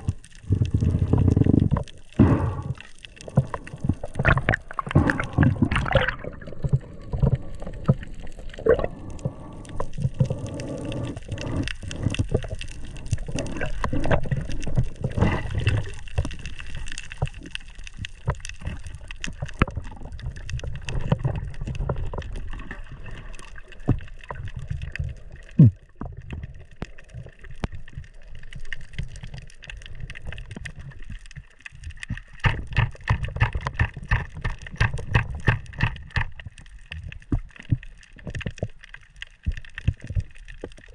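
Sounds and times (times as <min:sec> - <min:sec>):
scattered clicks and crackles: 0:00.0 - 0:40.9
underwater rumble of moving water: 0:00.0 - 0:40.9.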